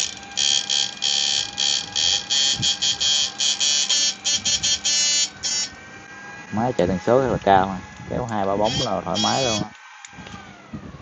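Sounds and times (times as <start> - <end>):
high-pitched electronic whine: 0.0 - 11.0.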